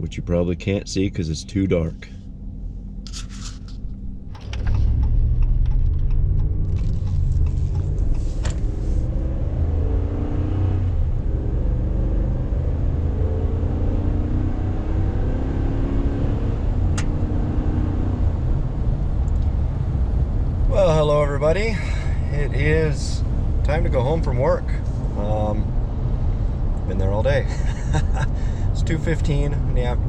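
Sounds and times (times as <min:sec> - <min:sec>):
vehicle engine and road rumble: 0:00.0 - 0:30.0.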